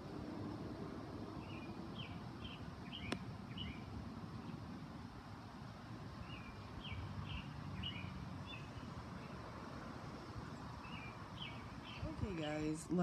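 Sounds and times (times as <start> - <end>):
low outdoor rumble: 0.0 - 13.0
songbird chirping: 1.3 - 13.0.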